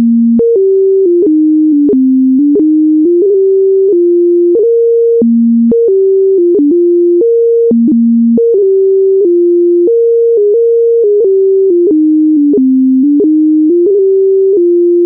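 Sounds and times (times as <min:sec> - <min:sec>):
electronic beep-like melody: 0:00.0 - 0:15.0.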